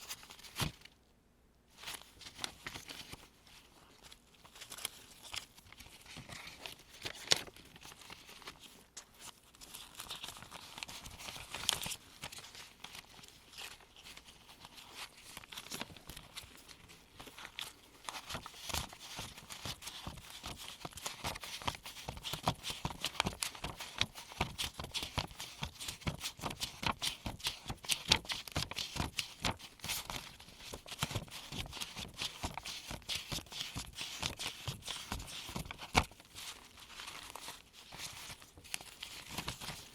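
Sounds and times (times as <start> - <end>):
paper bills flicking and rustling: 4.4 - 39.9.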